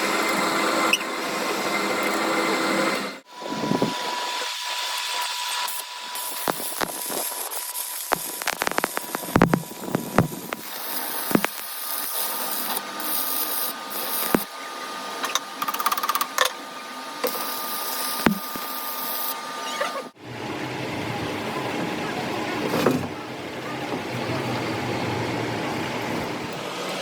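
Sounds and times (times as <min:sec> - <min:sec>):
metalworking power tool hissing: 0:00.0 - 0:27.0.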